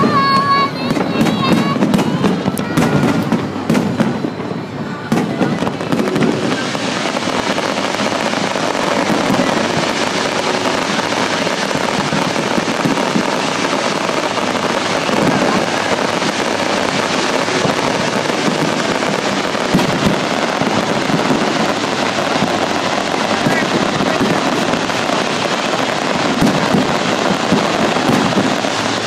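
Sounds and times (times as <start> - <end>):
fireworks hissing and crackling: 0.0 - 29.0.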